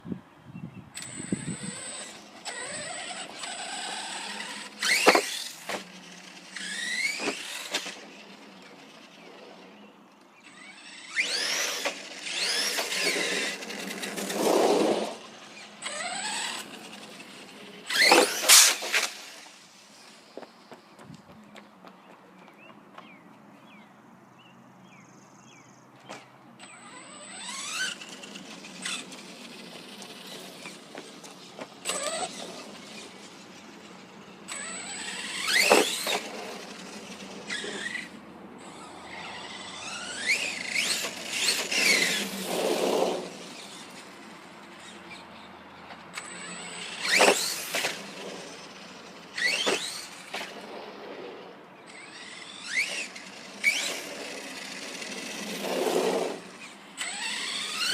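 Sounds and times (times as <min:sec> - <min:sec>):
tyre and ground noise: 0:00.9 - 0:23.9, 0:25.9 - 0:57.9
electric motor whining: 0:01.0 - 0:09.8, 0:10.4 - 0:19.7, 0:26.6 - 0:45.5, 0:46.2 - 0:57.9.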